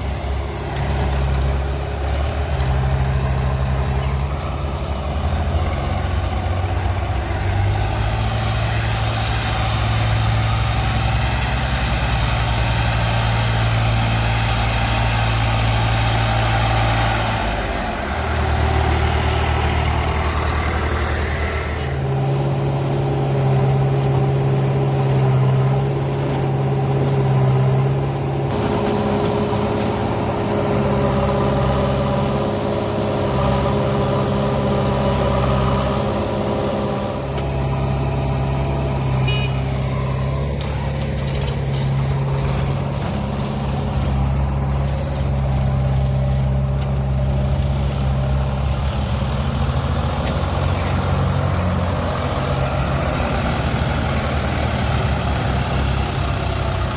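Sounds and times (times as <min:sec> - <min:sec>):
heavy diesel engines running: 0:00.0 - 0:56.9.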